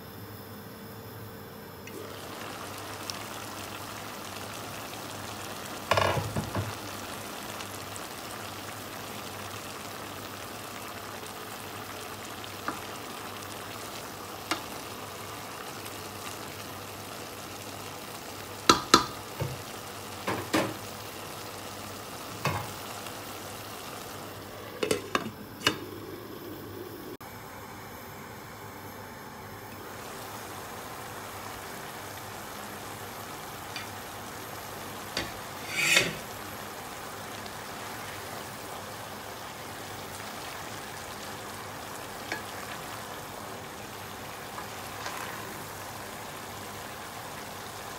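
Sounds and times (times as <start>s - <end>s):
food sizzling in a pot: 1.9s - 47.9s.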